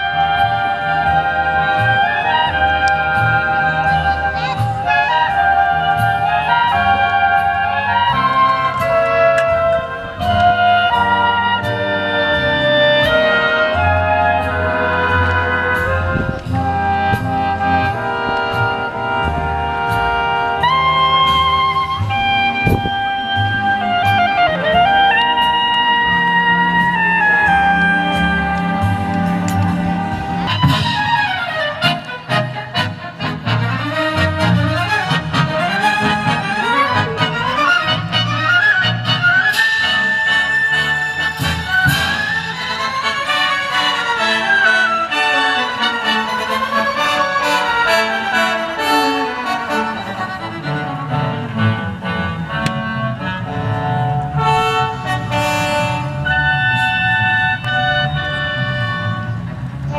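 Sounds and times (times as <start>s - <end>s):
brass: 0.0s - 59.9s
cellos: 0.0s - 59.9s
orchestra playing: 0.0s - 59.9s
violins: 0.0s - 59.9s.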